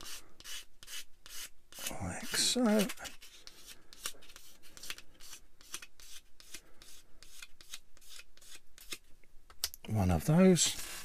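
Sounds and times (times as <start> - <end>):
plastic part being sanded by hand: 0.0 - 9.0.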